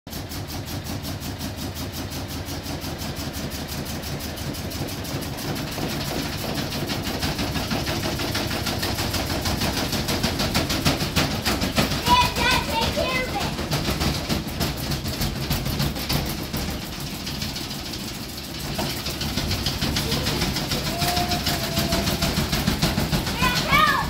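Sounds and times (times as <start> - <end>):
washing machine drum turning: 0.1 - 24.0.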